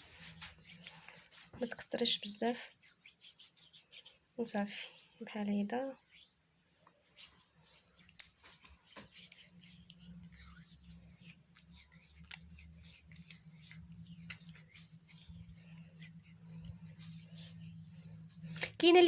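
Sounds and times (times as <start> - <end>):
hands rubbing gritty paste on skin: 0.0 - 18.8.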